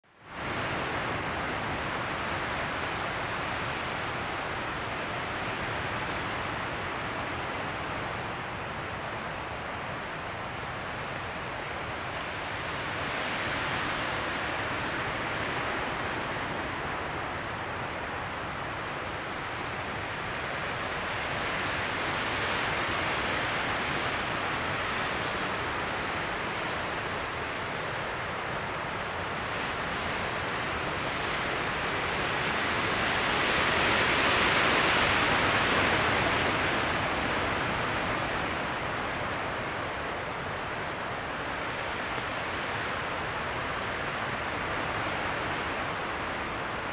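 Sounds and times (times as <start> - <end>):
wind rushing through trees: 0.0 - 46.9.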